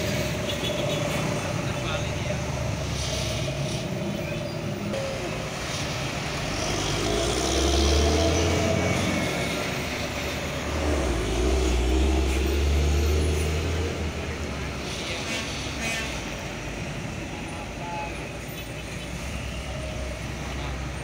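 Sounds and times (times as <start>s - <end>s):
heavy truck diesel engines rumbling: 0.0s - 21.0s
traffic noise: 0.0s - 21.0s.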